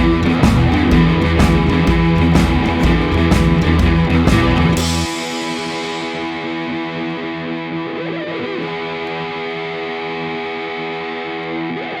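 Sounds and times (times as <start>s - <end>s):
distorted electric guitar chord: 0.0s - 12.0s.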